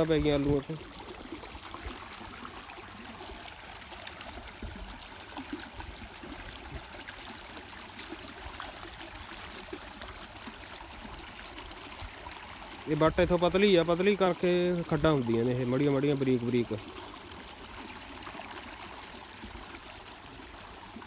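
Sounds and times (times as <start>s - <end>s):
water flowing in channel: 0.0s - 21.0s.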